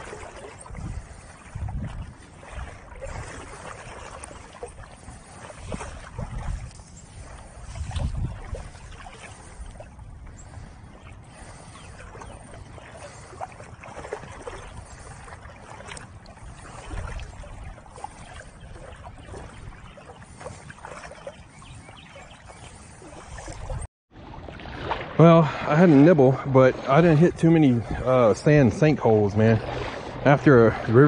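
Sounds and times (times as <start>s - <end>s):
river water lapping and splashing: 0.0s - 31.0s
wind buffeting microphone: 0.0s - 31.0s.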